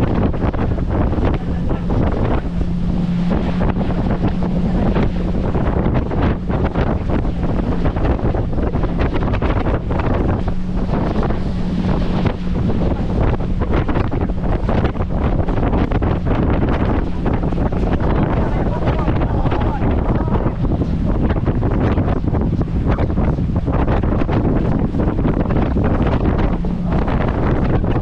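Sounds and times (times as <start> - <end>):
motorboat engine drone: 0.0 - 28.0
water rushing: 0.0 - 28.0
wind buffeting microphone: 0.0 - 28.0.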